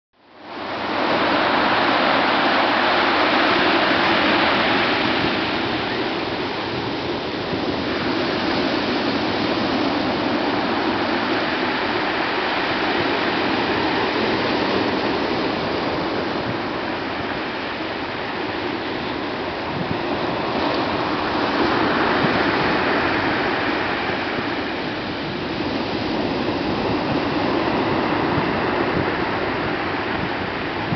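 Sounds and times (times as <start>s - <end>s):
surf breaking on pebble beach: 0.5s - 30.9s.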